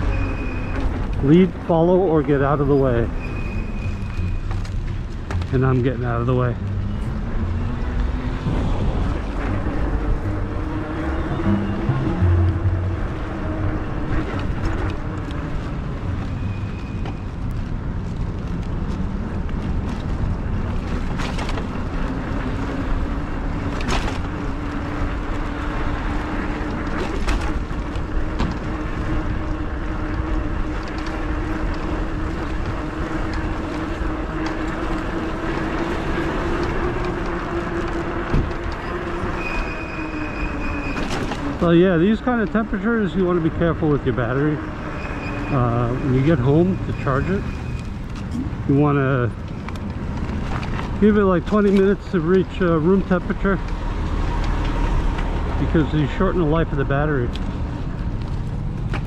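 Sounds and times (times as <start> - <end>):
road noise: 0.0 - 59.0
wind: 0.0 - 59.0.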